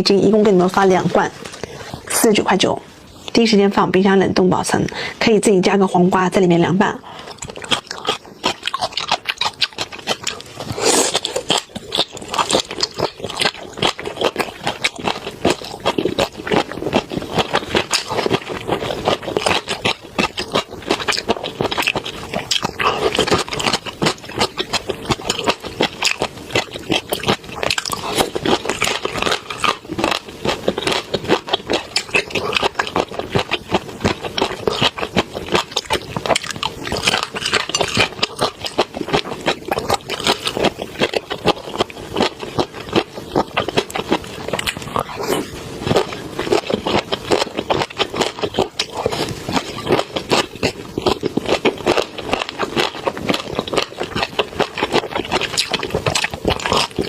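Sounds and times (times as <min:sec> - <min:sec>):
chewing food: 0:06.2 - 0:57.0.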